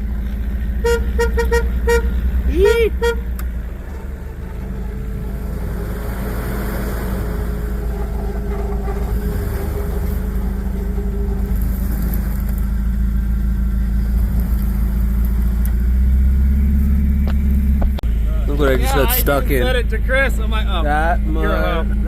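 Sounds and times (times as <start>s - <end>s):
engine running under load: 0.0s - 22.0s.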